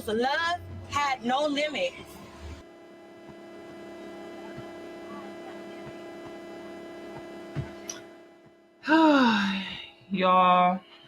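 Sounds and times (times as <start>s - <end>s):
steady two-tone hum: 0.0s - 11.0s.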